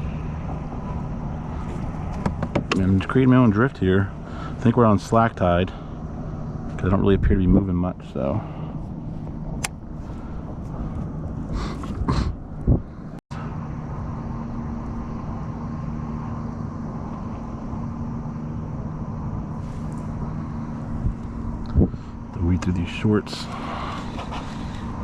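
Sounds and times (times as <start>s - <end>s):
low mechanical motor hum: 0.0s - 25.0s.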